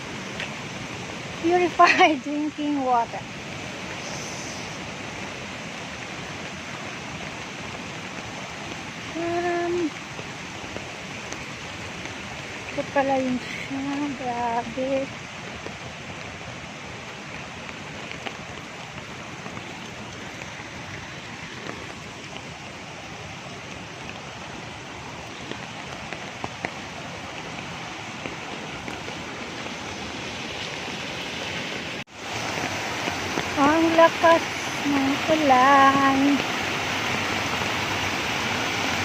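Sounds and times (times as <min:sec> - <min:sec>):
heavy rain hissing: 0:00.0 - 0:39.0.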